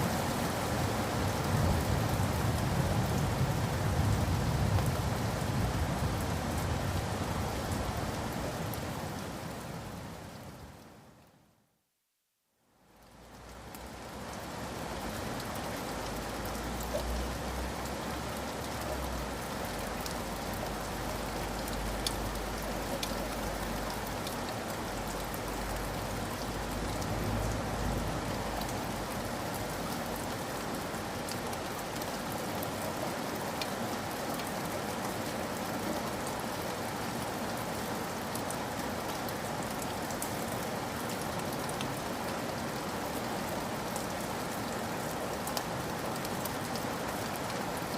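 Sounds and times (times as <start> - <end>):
rain pattering: 0.0 - 11.5, 12.8 - 47.9.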